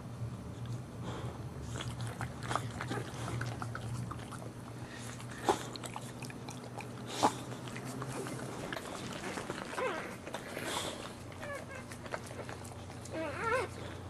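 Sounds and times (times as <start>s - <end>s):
low steady hum: 0.0s - 14.0s
dog licking and chewing: 1.6s - 14.0s.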